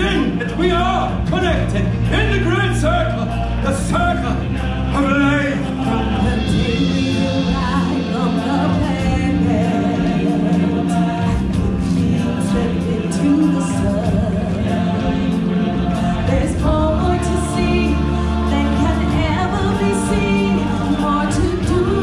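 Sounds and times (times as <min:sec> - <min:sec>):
choir singing with accompaniment: 0:00.0 - 0:22.0.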